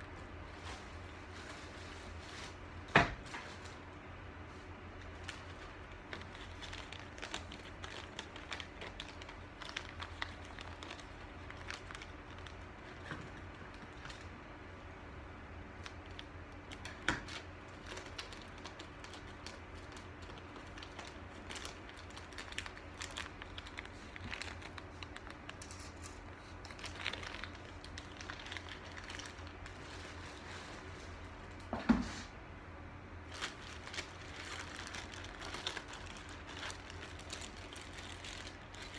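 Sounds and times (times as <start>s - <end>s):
low steady hum: 0.0s - 38.9s
plastic packaging crinkling: 3.2s - 14.7s, 15.6s - 31.6s, 33.2s - 38.9s.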